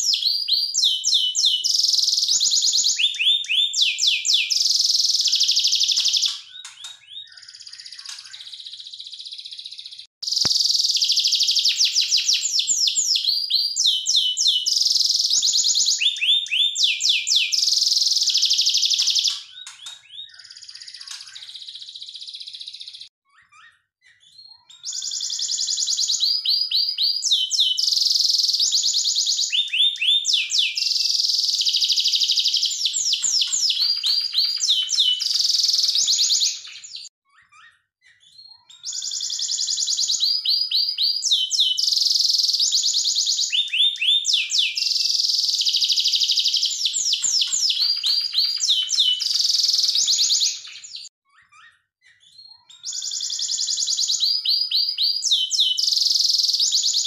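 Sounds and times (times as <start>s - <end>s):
canary singing trills: 0.0s - 57.0s
soft bird chirping: 0.0s - 57.0s.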